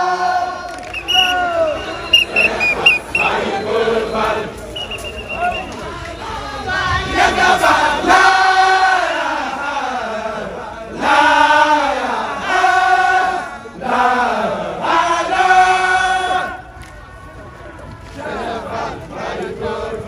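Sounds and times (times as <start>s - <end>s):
men chanting in unison: 0.0s - 16.6s, 18.1s - 20.0s.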